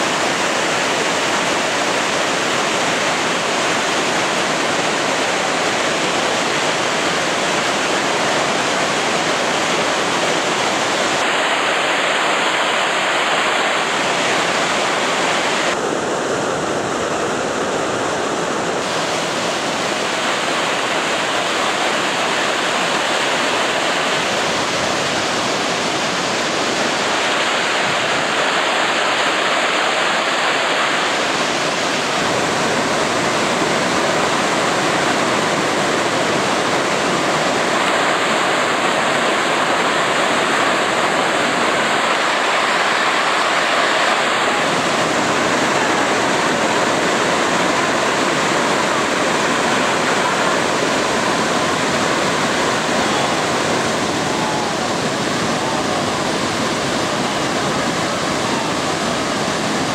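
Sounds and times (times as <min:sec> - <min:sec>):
whitewater river rushing: 0:00.0 - 0:59.9.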